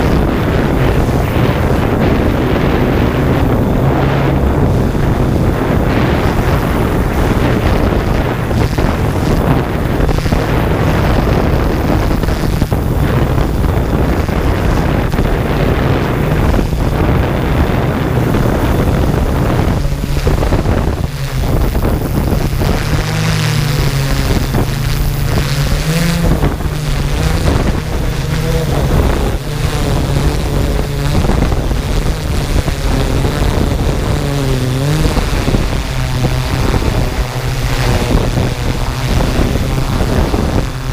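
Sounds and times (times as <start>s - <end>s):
drone propellers buzzing: 0.0s - 40.9s
wind on microphone: 0.0s - 40.9s.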